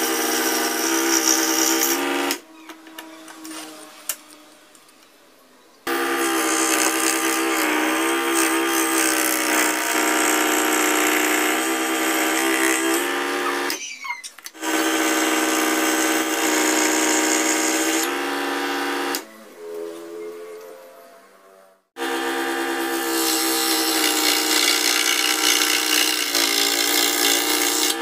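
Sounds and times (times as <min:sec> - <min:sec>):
scroll saw buzzing: 0:00.0 - 0:04.3, 0:05.9 - 0:19.2, 0:22.0 - 0:28.0.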